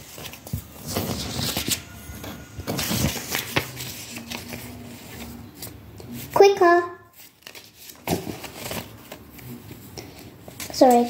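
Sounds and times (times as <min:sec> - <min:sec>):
paper rustling and crinkling: 0:00.0 - 0:06.4, 0:07.1 - 0:11.0.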